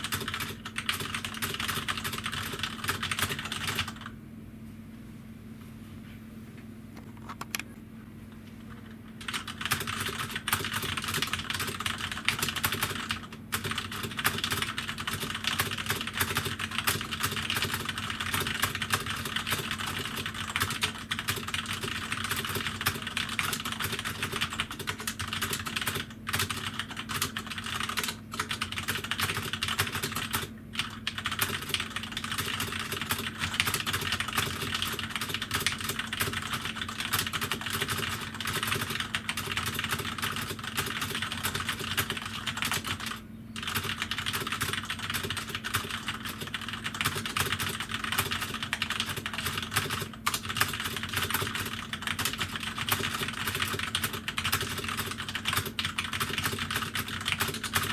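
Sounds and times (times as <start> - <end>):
mechanical keyboard typing: 0.0 - 4.1, 9.2 - 57.9.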